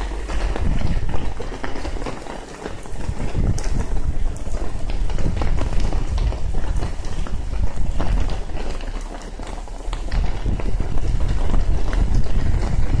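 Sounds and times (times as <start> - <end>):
heavy rain: 0.0 - 13.0
raindrops ticking: 0.0 - 13.0
wind buffeting microphone: 0.0 - 13.0.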